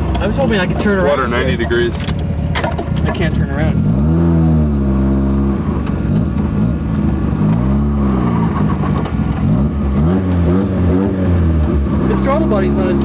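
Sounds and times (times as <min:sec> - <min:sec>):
rotary engine revving: 0:00.0 - 0:13.0.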